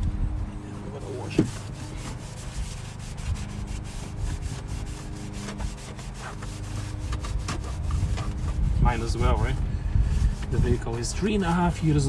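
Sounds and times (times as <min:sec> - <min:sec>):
cloth scrubbing surfaces: 0:00.6 - 0:12.0.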